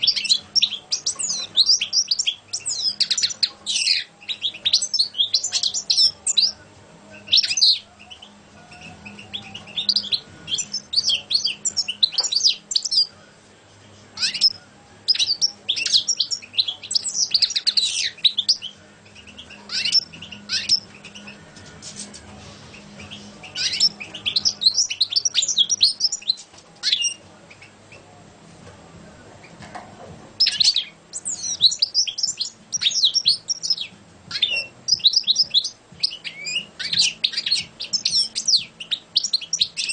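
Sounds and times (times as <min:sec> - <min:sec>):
goldfinch singing: 0:00.0 - 0:13.2, 0:14.1 - 0:28.1, 0:30.4 - 0:39.9.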